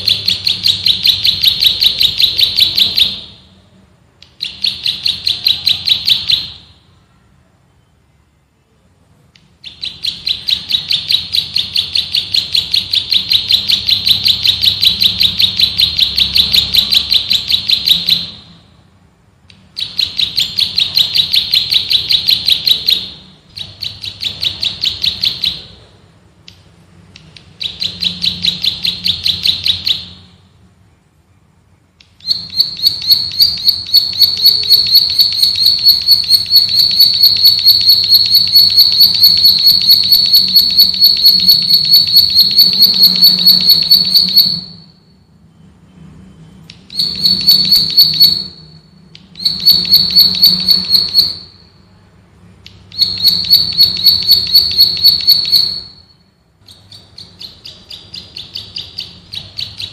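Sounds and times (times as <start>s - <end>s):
bird singing fast trills: 0.0s - 3.6s, 4.3s - 6.9s, 9.6s - 18.5s, 19.5s - 25.8s, 27.4s - 30.3s, 32.2s - 45.0s, 46.7s - 51.7s, 52.8s - 59.9s.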